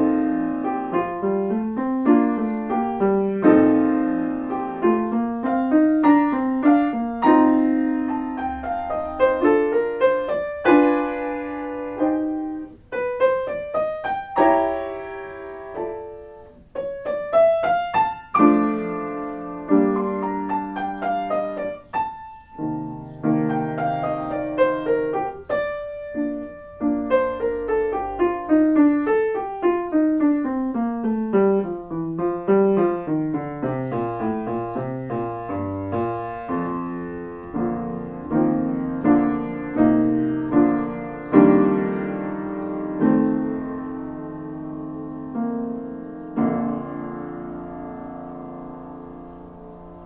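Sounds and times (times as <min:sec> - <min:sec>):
solo piano playing: 0:00.0 - 0:50.0.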